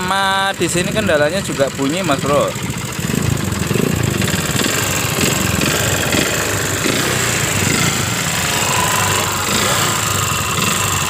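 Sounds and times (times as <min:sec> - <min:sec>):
engine running rough: 0:00.0 - 0:11.0
fast ticking rattle: 0:00.0 - 0:11.0.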